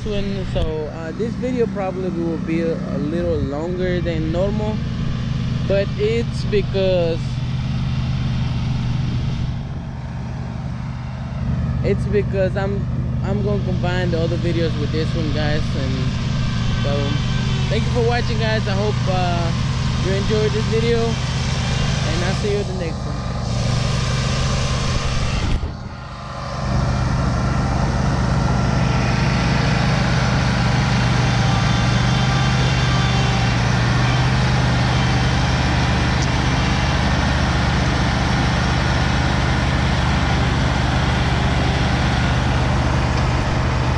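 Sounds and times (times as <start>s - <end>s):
mower engines running: 0.0s - 43.9s.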